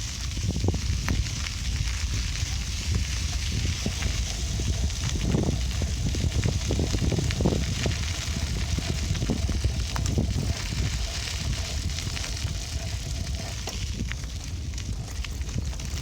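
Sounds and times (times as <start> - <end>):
bicycle clicks and crackles: 0.0 - 16.0
wind buffeting microphone: 0.0 - 16.0.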